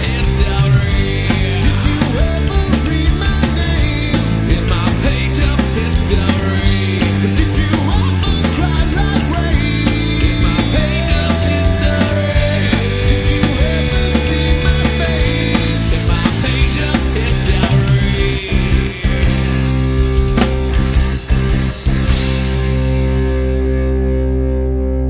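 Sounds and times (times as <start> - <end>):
loud rock music: 0.0 - 25.0.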